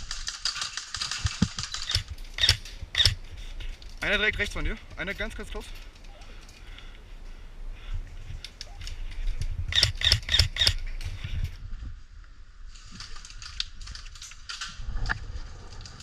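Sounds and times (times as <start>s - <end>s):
scattered clicks: 0.0s - 7.0s, 8.3s - 11.2s, 12.9s - 16.0s.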